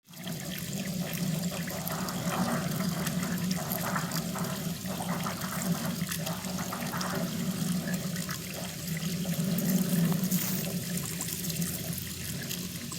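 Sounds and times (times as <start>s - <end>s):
water splashing into a pond: 0.1s - 12.9s
water trickling: 0.1s - 12.9s.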